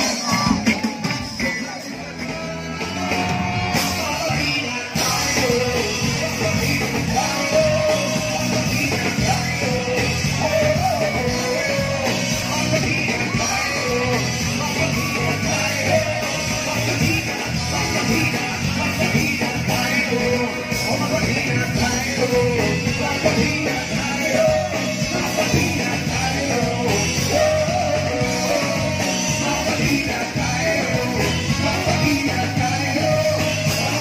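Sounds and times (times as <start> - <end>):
live rock band playing: 0.0 - 34.0
person singing: 0.0 - 34.0.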